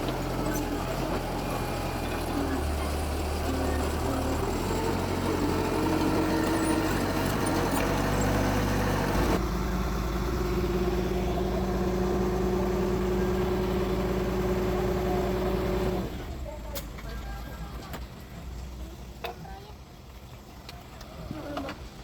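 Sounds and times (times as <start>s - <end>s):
heavy diesel engine running: 0.0s - 19.2s.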